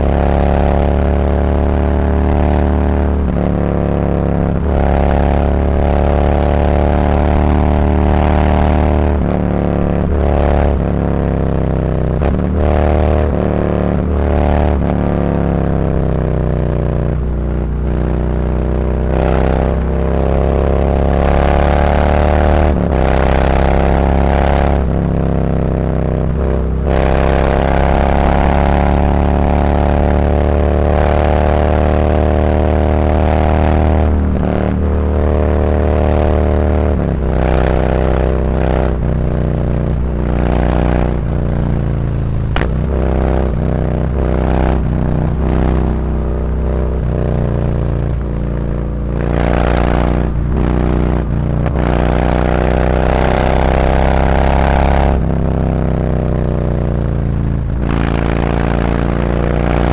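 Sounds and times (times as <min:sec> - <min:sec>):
motorcycle accelerating through gears: 0:00.0 - 0:59.9.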